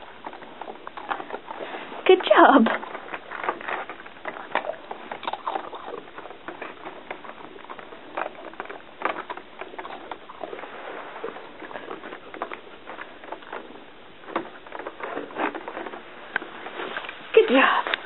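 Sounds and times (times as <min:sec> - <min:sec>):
plastic cone knocking and scraping: 0:00.0 - 0:18.0.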